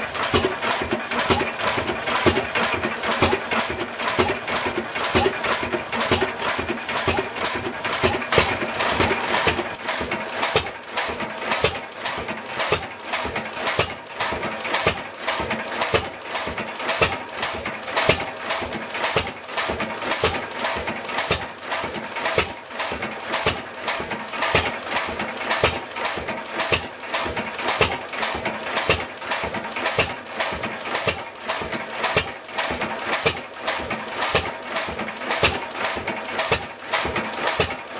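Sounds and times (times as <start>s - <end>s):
stationary engine clattering: 0.0s - 37.9s.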